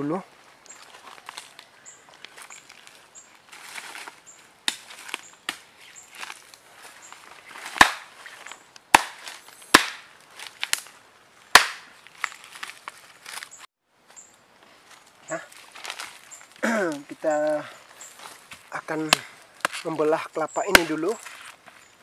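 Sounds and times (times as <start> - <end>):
footsteps crunching through dry leaves: 0.3 - 11.0, 11.7 - 22.0.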